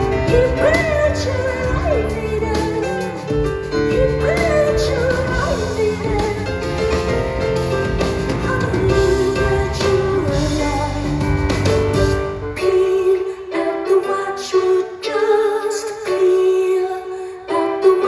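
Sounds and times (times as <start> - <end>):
live band playing pop song: 0.0 - 18.0.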